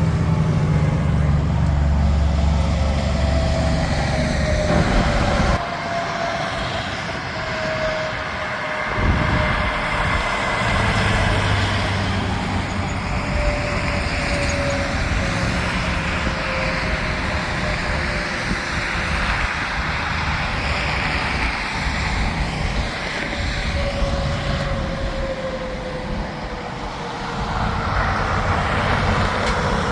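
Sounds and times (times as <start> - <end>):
highway traffic with trucks: 0.0 - 29.9.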